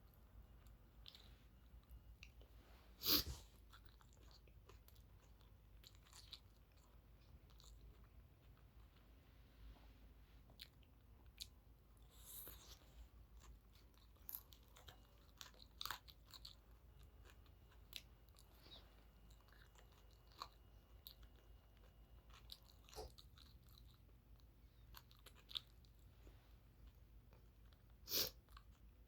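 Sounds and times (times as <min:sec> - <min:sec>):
person chewing crunchy food: 0:00.6 - 0:08.7, 0:10.5 - 0:28.8.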